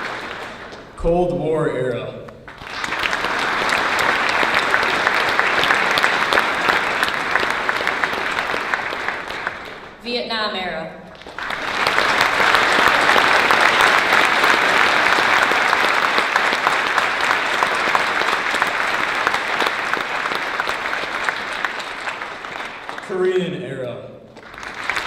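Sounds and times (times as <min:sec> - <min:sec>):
large audience clapping: 0:00.0 - 0:01.0, 0:02.4 - 0:10.0, 0:11.1 - 0:23.4, 0:24.3 - 0:25.0.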